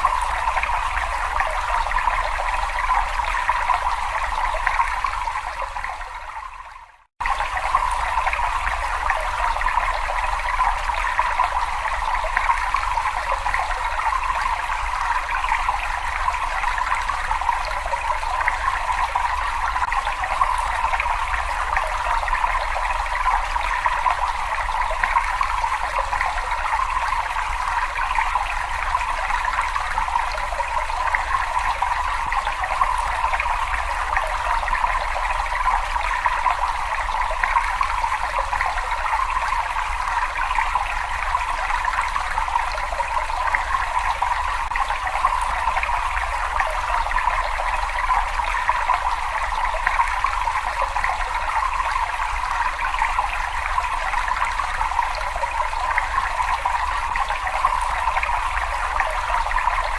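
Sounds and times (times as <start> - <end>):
water trickling in cave: 0.0 - 59.9.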